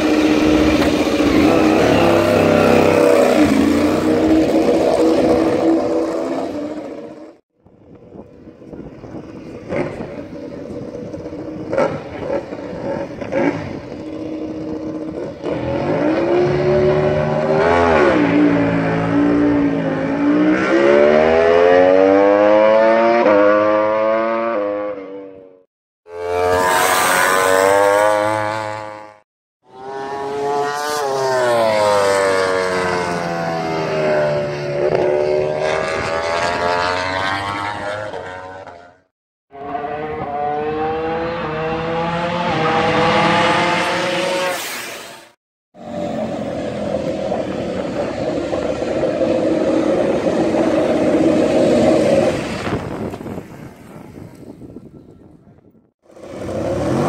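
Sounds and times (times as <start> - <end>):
motorcycle engine revving: 0.0 - 7.4, 9.0 - 54.4, 56.0 - 57.0
racing motorcycle accelerating: 0.0 - 7.4, 8.2 - 54.8, 56.0 - 57.0.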